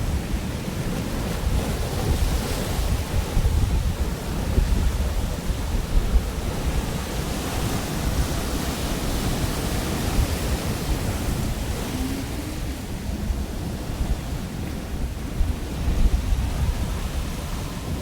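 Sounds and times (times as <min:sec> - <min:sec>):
surf washing on shore: 0:00.0 - 0:18.0
wind buffeting microphone: 0:00.0 - 0:18.0.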